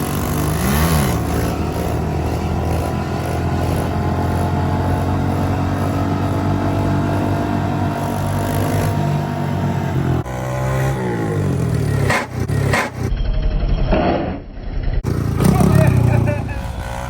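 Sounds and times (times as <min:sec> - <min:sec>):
motorcycle engine running: 0:00.0 - 0:13.2, 0:14.8 - 0:17.0.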